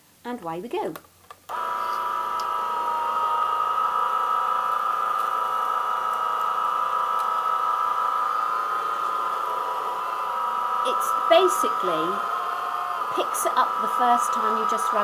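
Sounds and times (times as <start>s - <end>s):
electric sweeper motor whine: 1.5s - 15.0s.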